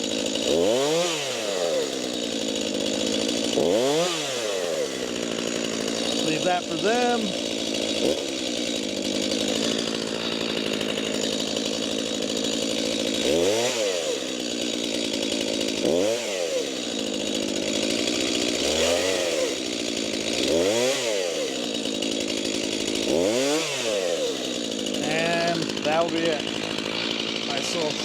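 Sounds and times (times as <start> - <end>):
chainsaw engine revving: 0.0 - 28.0.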